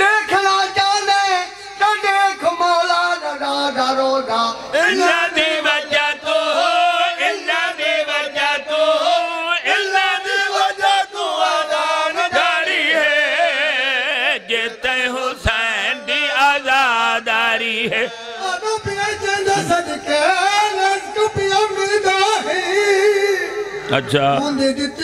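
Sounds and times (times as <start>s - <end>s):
men chanting: 0.0s - 25.0s.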